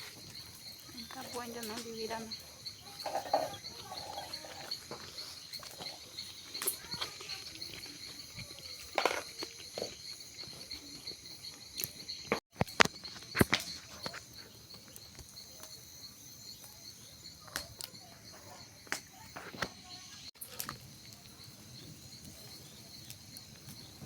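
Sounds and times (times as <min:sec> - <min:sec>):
crickets chirping: 0:00.0 - 0:24.0
sharp crackles and pops: 0:00.0 - 0:24.0.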